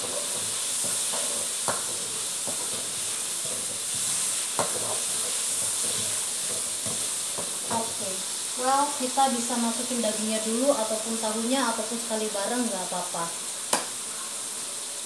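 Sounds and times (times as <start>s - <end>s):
paste sizzling in a wok: 0.0s - 15.0s.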